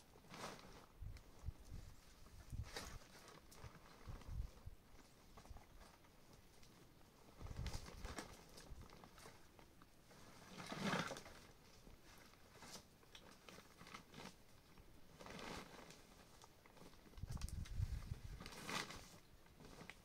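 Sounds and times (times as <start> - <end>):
scuffs and rustles on stony ground: 0.1 - 20.0.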